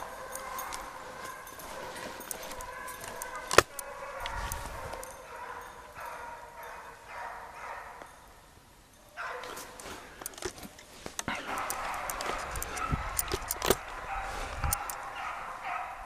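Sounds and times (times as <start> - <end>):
distant hounds baying: 0.0 - 16.0.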